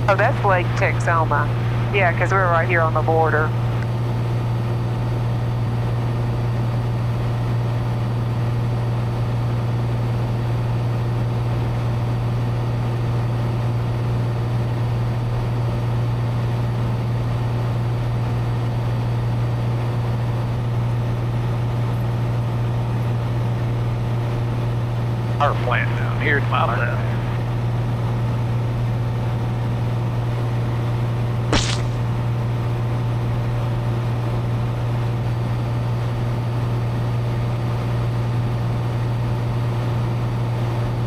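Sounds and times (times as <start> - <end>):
airplane engine and propeller droning: 0.0 - 41.0.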